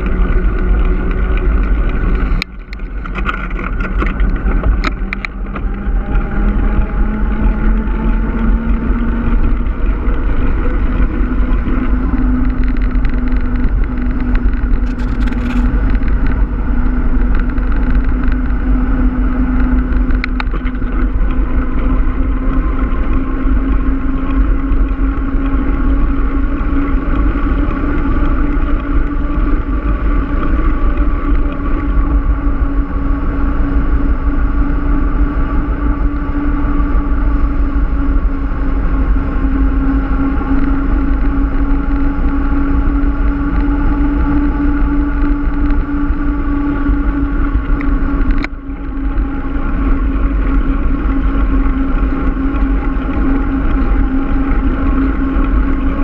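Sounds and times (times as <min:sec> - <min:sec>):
bike tyres humming on asphalt: 0:00.0 - 0:56.0
wind rushing over microphone: 0:00.0 - 0:56.0.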